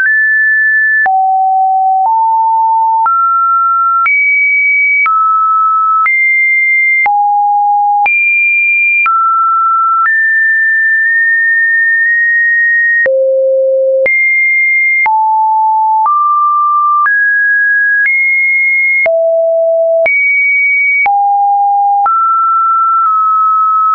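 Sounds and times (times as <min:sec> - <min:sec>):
sine-wave test beeps: 0:01.0 - 0:11.3, 0:11.9 - 0:23.9.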